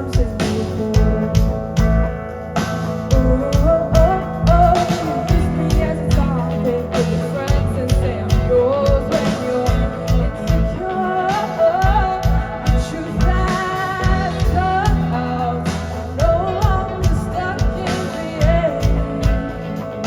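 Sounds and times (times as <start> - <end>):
bass guitar: 0.0 - 20.0
electric guitar lead melody: 0.0 - 20.0.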